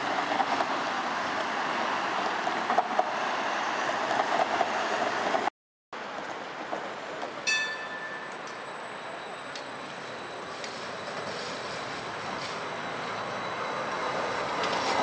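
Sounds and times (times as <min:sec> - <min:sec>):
tram running on rails: 0:00.0 - 0:15.0.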